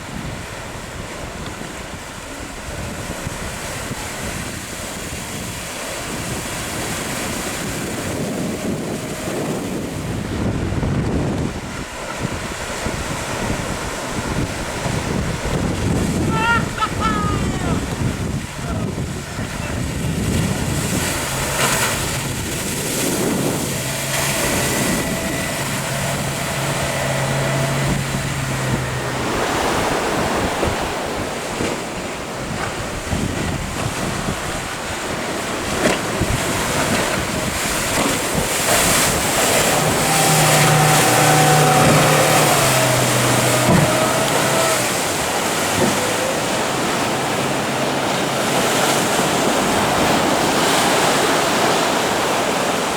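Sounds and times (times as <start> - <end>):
low engine hum: 0.0 - 52.9
ocean surf breaking: 0.0 - 52.9
wind buffeting microphone: 0.0 - 52.9.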